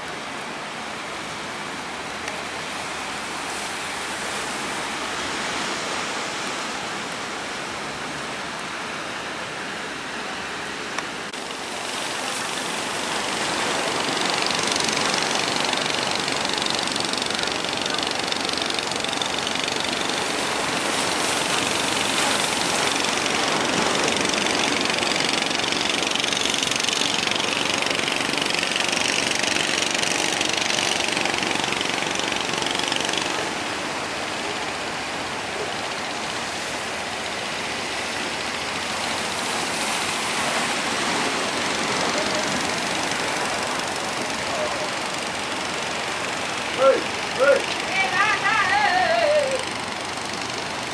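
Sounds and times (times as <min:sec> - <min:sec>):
boat engines running hard: 0:00.0 - 0:50.9
waves rushing: 0:00.0 - 0:50.9.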